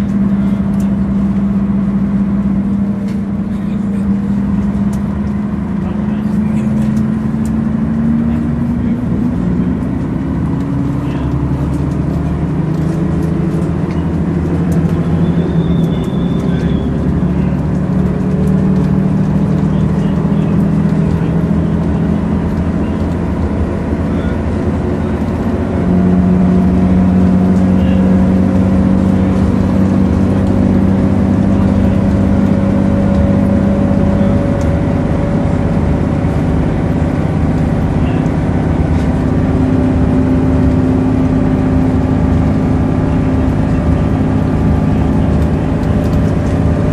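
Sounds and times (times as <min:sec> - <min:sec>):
bus engine drone: 0:00.0 - 0:46.9
rising drivetrain whine: 0:00.0 - 0:46.9.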